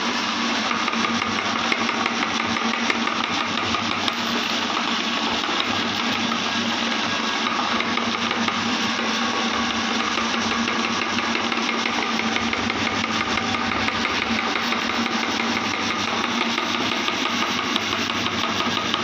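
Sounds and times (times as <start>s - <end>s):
meat grinder motor running: 0.0s - 19.0s.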